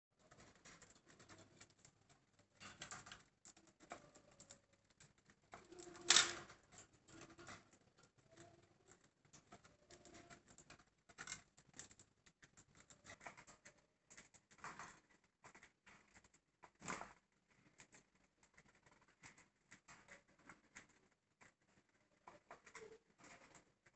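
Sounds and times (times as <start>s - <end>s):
birds pecking and husking seeds: 0.2s - 23.9s.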